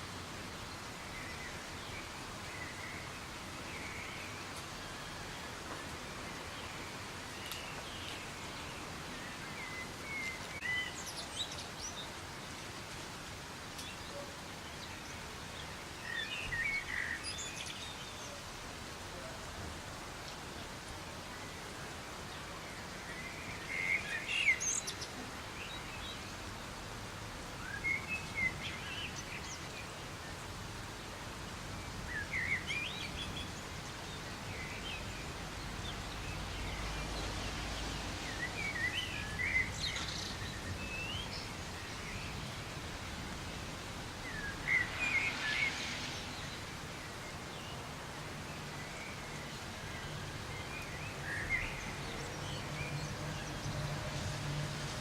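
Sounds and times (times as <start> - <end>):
soft rain hissing: 0.0 - 55.0
songbird chirping: 0.0 - 55.0.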